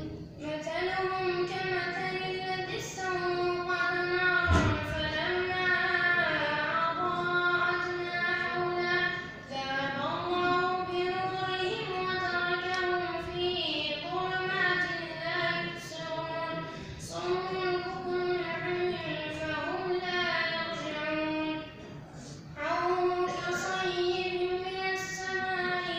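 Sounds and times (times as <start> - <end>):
boy chanting melodically: 0.0 - 25.9.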